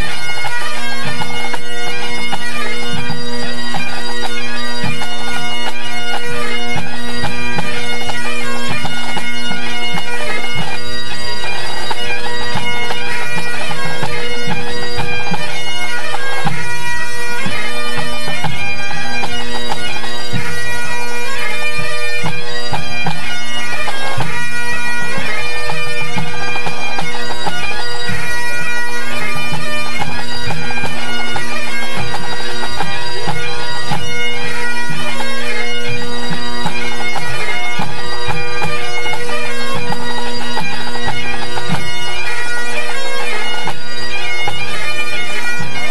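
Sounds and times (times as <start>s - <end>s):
bagpipes playing: 0.0s - 45.9s.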